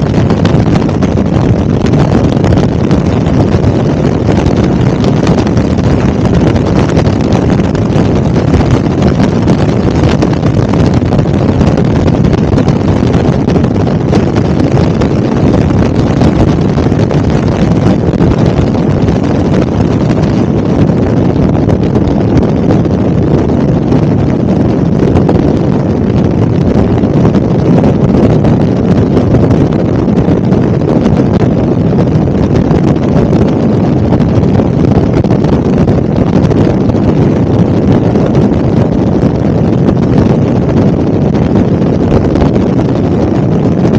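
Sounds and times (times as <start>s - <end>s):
helicopter rumble: 0.0s - 43.9s
wind noise on microphone: 0.0s - 43.9s.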